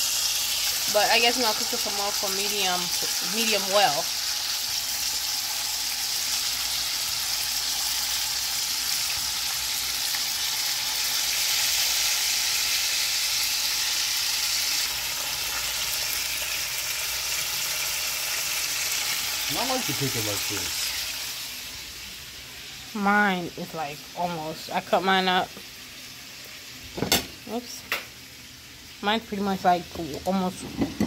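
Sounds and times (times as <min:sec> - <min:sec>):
steak sizzling in frying pan: 0:00.0 - 0:23.6, 0:25.0 - 0:31.0.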